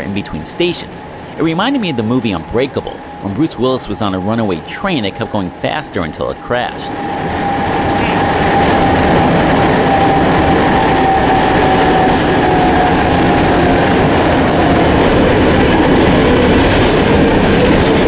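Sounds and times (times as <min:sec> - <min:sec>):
train rattle and rail noise: 0:00.0 - 0:18.0
train whine falling in pitch: 0:01.0 - 0:18.0.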